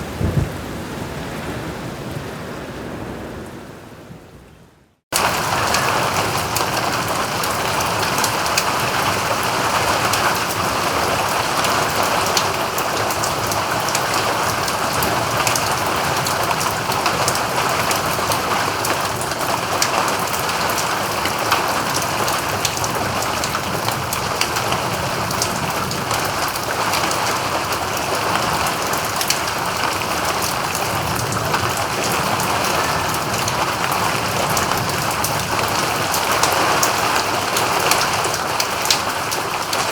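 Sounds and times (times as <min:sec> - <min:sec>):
raindrops ticking: 0:05.2 - 0:39.9.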